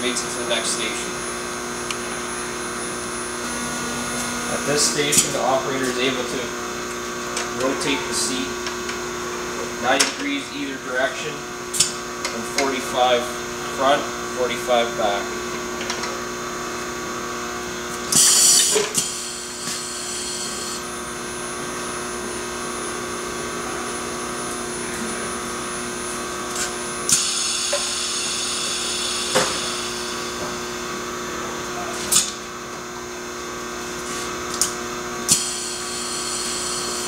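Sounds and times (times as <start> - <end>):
machine hum: 0.0 - 37.0.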